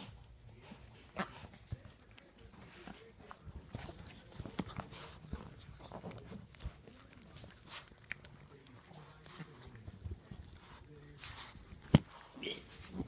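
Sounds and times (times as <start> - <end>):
dogs licking: 0.0 - 13.0
dogs snuffling: 0.0 - 13.0
rustling of fur and bedding: 0.0 - 13.0.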